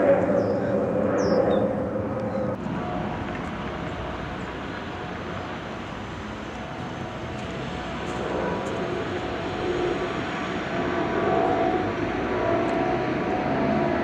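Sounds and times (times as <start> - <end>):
jet engines during climb: 0.0 - 14.0.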